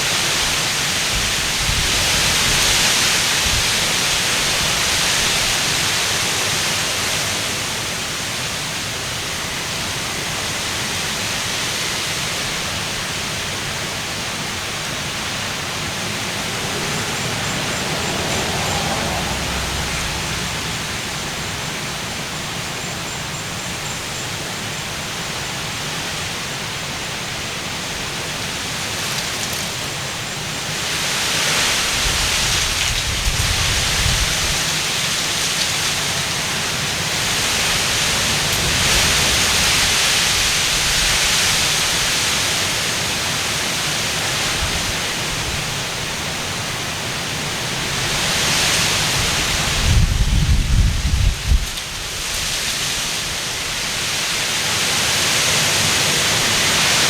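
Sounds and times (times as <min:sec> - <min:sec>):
wind gusts on microphone: 0:00.0 - 0:08.0, 0:11.6 - 0:22.9, 0:28.1 - 0:57.0
heavy rain roaring: 0:00.0 - 0:57.0.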